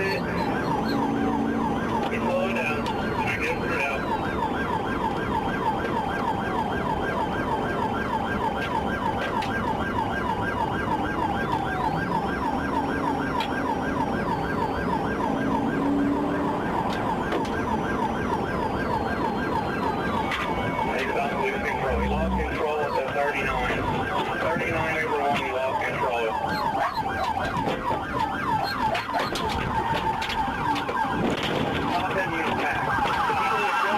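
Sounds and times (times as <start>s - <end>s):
engine and road noise: 0.0s - 33.9s
police siren yelp: 0.0s - 33.9s.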